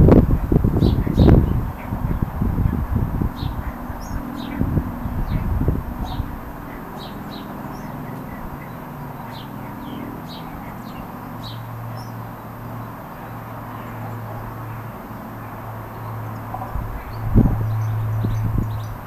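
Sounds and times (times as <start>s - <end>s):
low steady hum: 0.0s - 19.0s
small birds chirping: 0.0s - 19.0s
wind noise on microphone: 0.0s - 19.0s.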